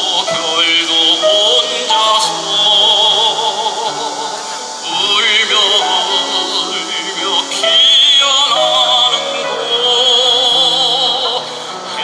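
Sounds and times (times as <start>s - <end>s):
grand piano accompaniment: 0.0s - 12.0s
tenor singing with vibrato: 0.0s - 12.0s.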